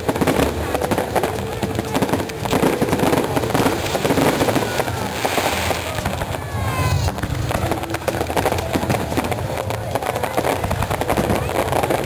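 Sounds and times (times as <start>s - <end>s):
falling firework whistles: 0.0s - 12.0s
fireworks bangs and crackling: 0.0s - 12.0s.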